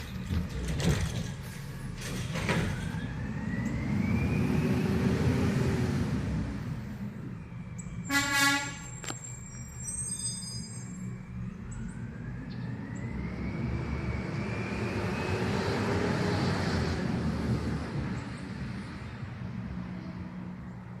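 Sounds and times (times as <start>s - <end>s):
garbage truck engine whine: 0.0s - 20.6s.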